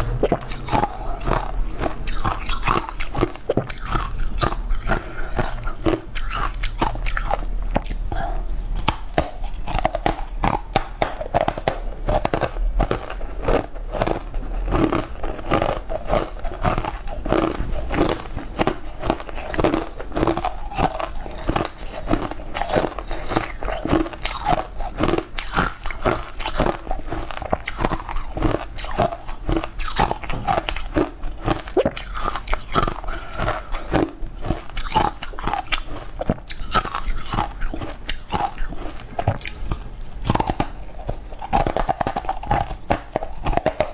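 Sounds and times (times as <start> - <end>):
crunchy food chewing: 0.0 - 43.9.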